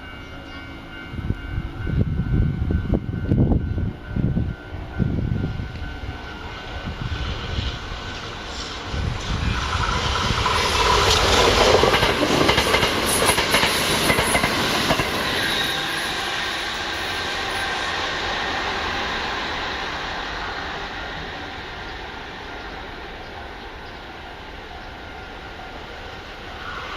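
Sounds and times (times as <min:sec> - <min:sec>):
electric train passing: 0:00.0 - 0:26.9.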